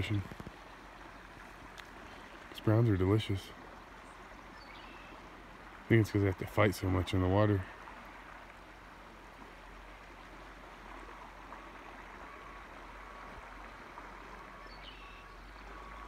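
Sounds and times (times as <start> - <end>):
river current flowing over riffles: 0.0 - 16.0.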